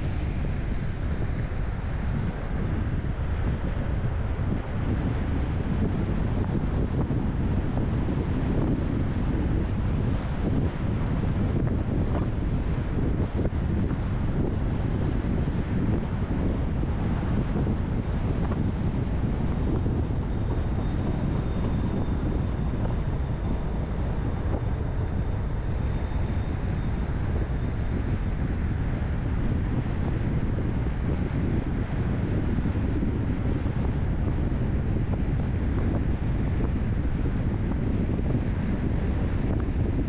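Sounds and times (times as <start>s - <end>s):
faint thin whine: 0.0s - 4.7s, 5.4s - 40.0s
car road and engine rumble: 0.0s - 40.0s.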